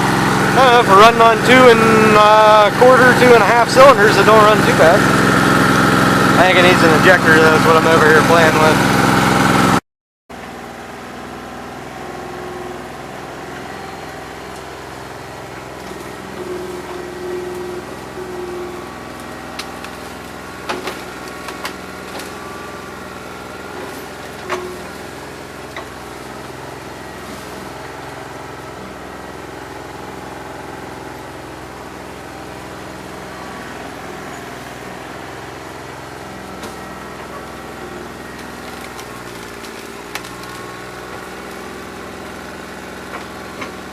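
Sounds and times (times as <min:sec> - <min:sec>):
diesel tractor engine idling rough: 0:00.0 - 0:09.8, 0:10.4 - 0:43.9.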